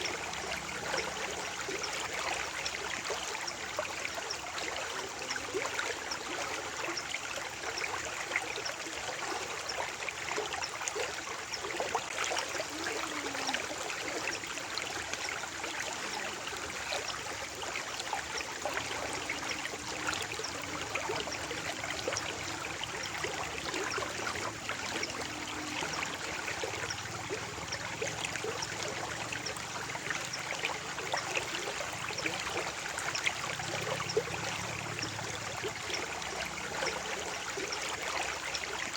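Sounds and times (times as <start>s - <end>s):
small water splashes: 0.0s - 38.9s
stream water flowing: 0.0s - 38.9s.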